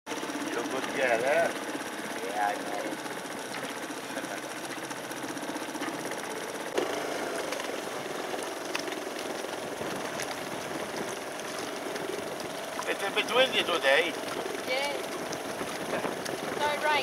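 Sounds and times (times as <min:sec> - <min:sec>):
small boat engine chugging: 0:00.1 - 0:17.0.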